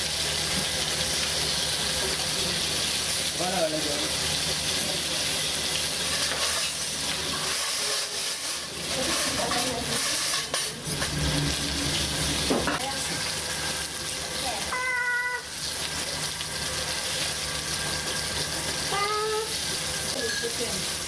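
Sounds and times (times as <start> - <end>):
fish frying in sizzling oil: 0.0 - 21.0.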